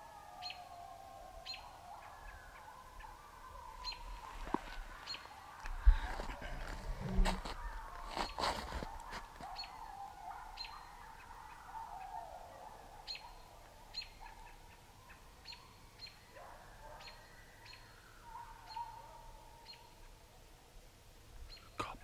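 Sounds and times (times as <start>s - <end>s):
wavering howl-like calls: 0.0s - 20.2s.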